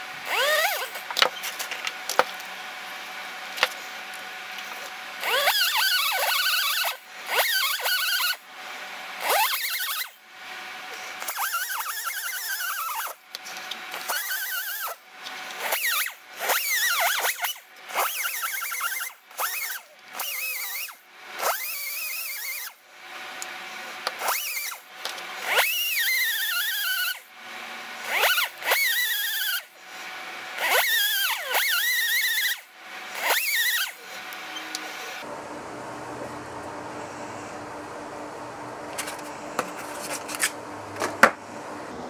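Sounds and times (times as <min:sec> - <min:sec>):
air die grinder whine: 0:00.0 - 0:42.0.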